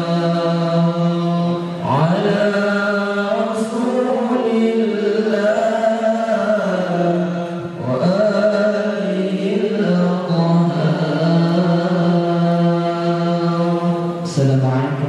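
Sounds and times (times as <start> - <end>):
man chanting over loudspeaker: 0.0 - 15.0.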